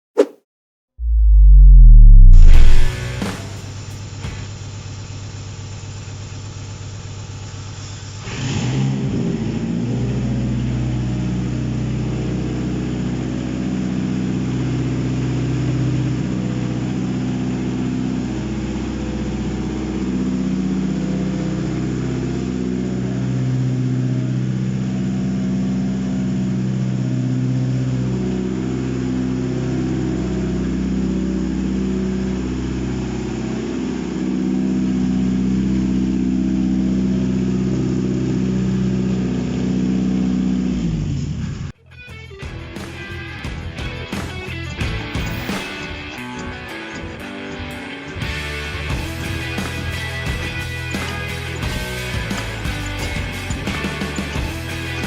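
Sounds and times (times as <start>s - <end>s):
engine starting and running: 1.0s - 41.8s, 43.8s - 55.0s.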